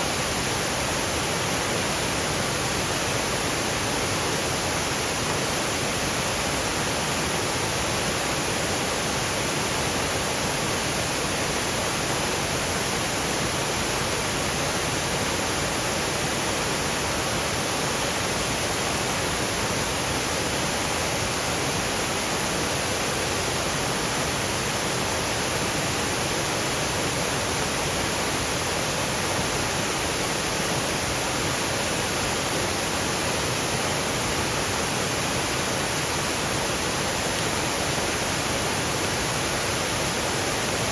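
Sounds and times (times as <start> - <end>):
rain falling through trees: 0.0 - 40.9
waterfall roaring over rocks: 0.0 - 40.9.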